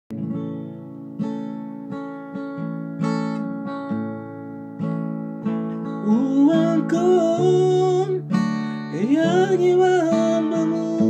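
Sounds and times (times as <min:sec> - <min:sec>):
acoustic guitar strummed slowly: 0:00.1 - 0:11.0.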